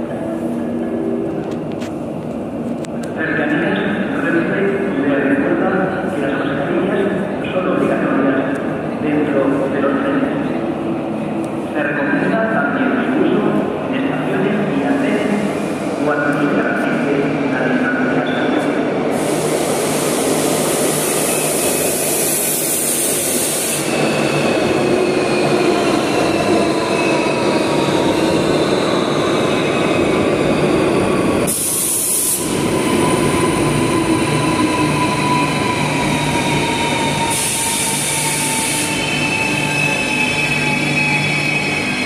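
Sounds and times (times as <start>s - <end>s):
electric train rumbling: 0.0s - 42.0s.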